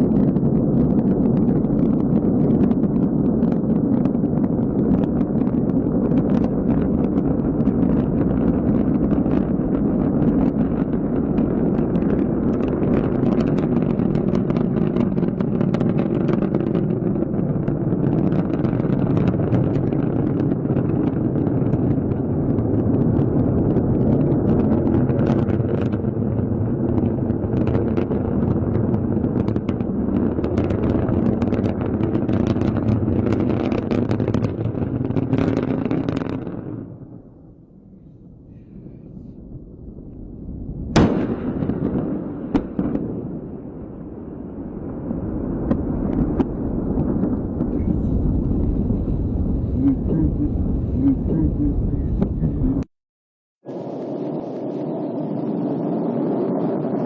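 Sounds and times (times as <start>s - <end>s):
rocket engine roar with crackling: 0.0s - 52.9s, 53.6s - 57.0s.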